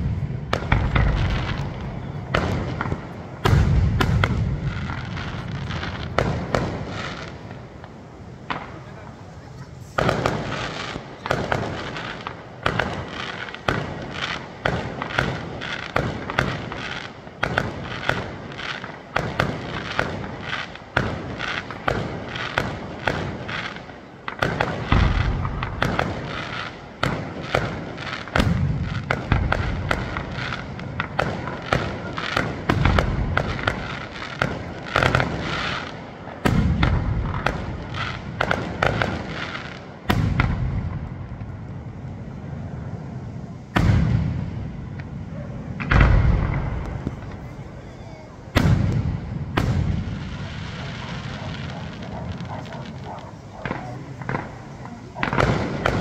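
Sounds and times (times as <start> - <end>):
deep fireworks booms: 0.0 - 56.0
fireworks launching and bursting: 0.0 - 56.0.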